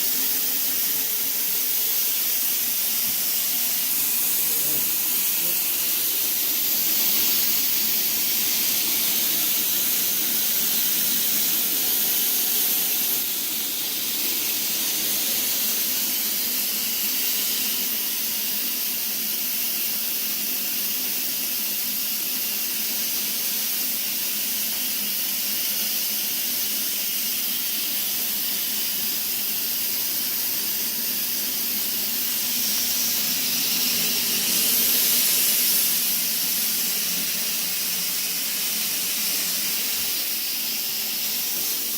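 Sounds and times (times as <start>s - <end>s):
fogger hissing: 0.0s - 41.9s.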